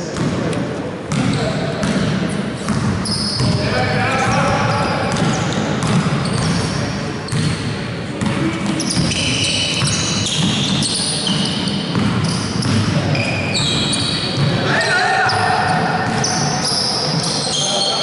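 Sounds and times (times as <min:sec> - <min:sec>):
sneakers squeaking: 0:01.1 - 0:18.0.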